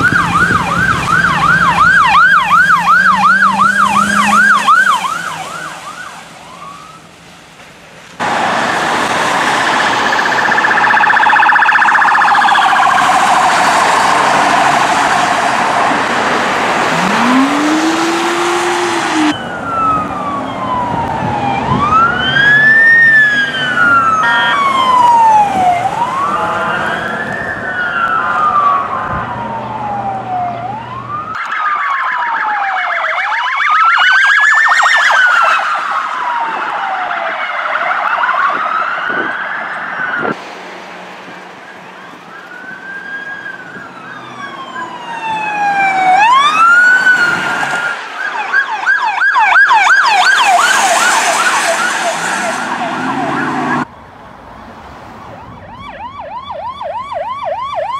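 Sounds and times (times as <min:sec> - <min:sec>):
police siren yelp: 0:00.0 - 0:07.1, 0:08.2 - 0:40.4, 0:41.6 - 0:53.9, 0:55.1 - 0:57.9
siren wail rising and falling: 0:00.0 - 0:07.2, 0:08.2 - 0:40.4, 0:41.2 - 0:57.9
road noise: 0:00.0 - 0:57.9.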